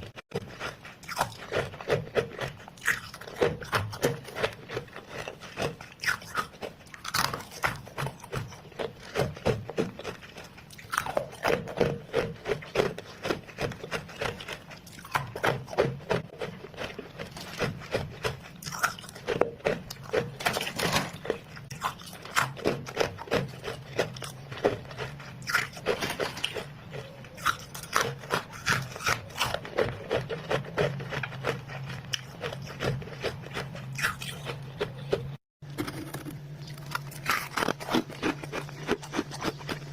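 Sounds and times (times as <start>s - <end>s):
frost being chewed: 0.0s - 39.9s
low steady hum: 0.0s - 39.9s.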